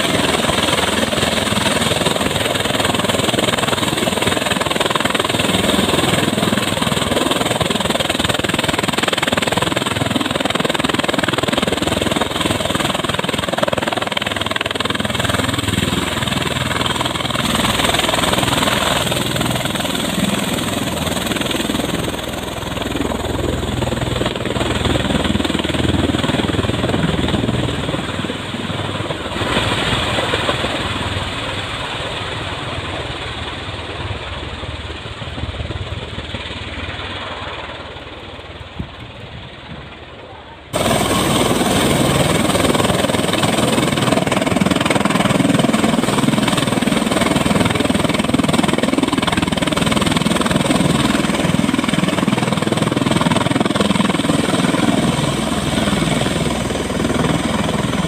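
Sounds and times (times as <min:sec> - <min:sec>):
tiltrotor aircraft rotor noise: 0:00.0 - 0:58.0.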